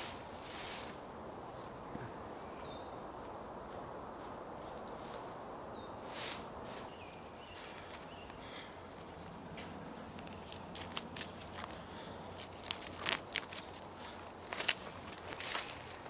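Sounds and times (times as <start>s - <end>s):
rustles or footsteps: 0.0s - 16.0s
steady hiss: 0.0s - 16.0s.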